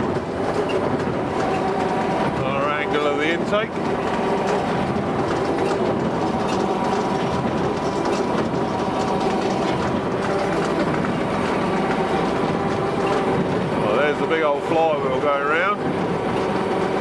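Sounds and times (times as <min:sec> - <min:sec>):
baler clattering: 0:00.0 - 0:17.0.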